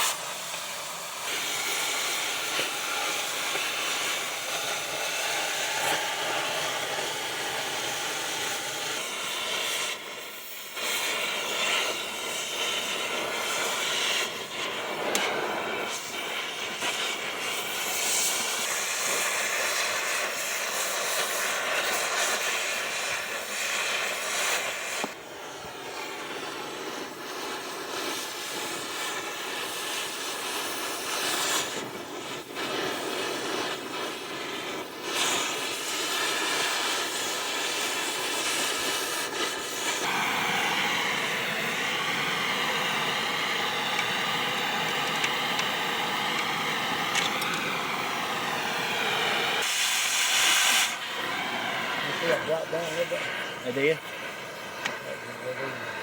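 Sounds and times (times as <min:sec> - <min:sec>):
cutting torch hissing roar: 0:00.0 - 0:56.0.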